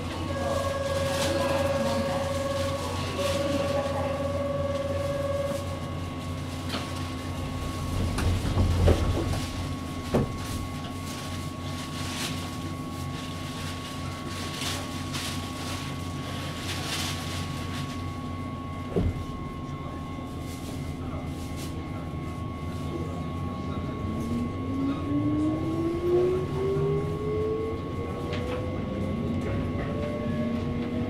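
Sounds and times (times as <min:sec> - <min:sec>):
train running rumble: 0:00.0 - 0:31.0.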